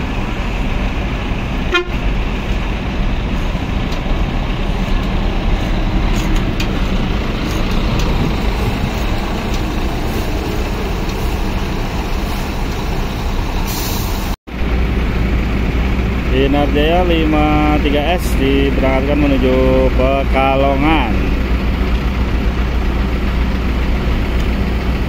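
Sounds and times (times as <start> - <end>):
diesel bus engine rumbling: 0.0 - 25.0.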